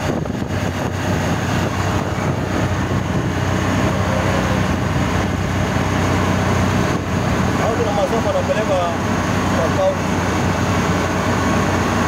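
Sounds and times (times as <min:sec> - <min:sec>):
engine drone: 0:00.0 - 0:12.0
road and wind noise: 0:00.0 - 0:12.0.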